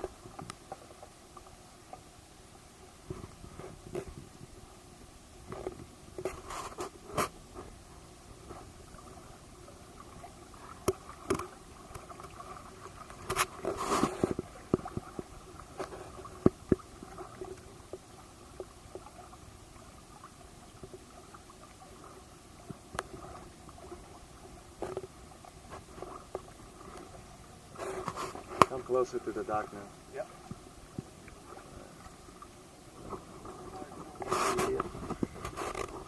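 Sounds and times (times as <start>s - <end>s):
water gurgling: 0.0s - 36.0s.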